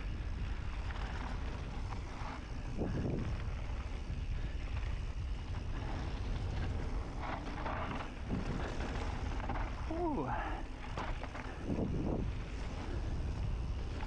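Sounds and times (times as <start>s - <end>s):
bike tyres on dirt trail: 0.0s - 14.0s
wind rumbling on microphone: 0.0s - 14.0s.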